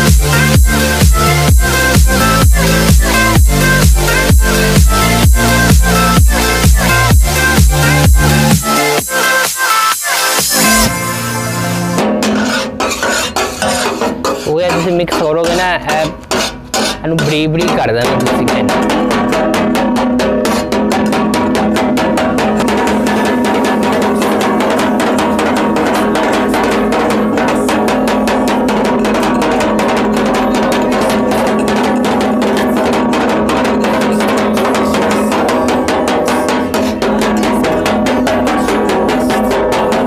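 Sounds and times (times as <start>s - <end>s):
fast drum beat: 0.0s - 40.0s
steady held tone: 0.0s - 40.0s.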